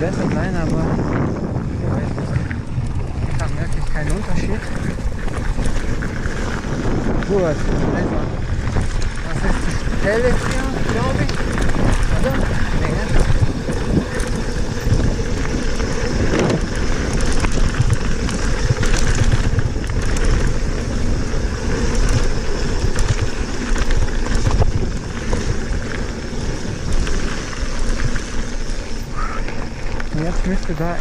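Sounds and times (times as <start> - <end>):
bike clicks and rattles: 0.0 - 31.0
bike tyres on gravel: 0.0 - 31.0
wind buffeting microphone: 0.0 - 31.0.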